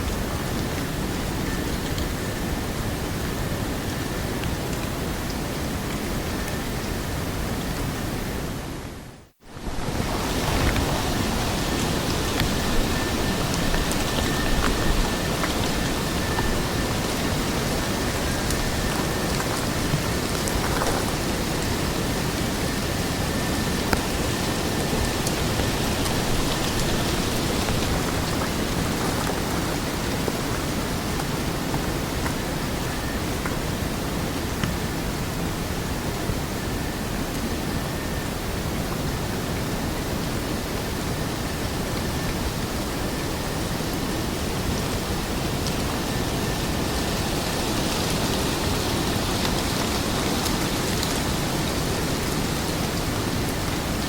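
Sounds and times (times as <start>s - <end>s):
steady rain-like noise: 0.0s - 54.0s
steady rushing hiss: 0.0s - 54.0s.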